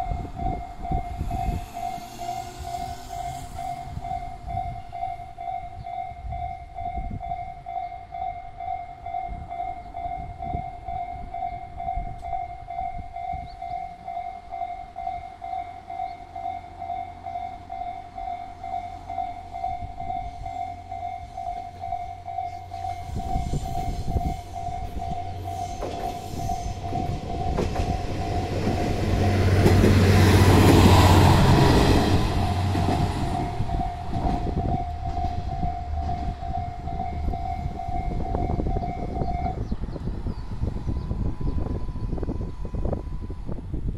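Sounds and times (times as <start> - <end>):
level-crossing warning bell: 0.0 - 39.8
train rumbling past: 0.0 - 43.9.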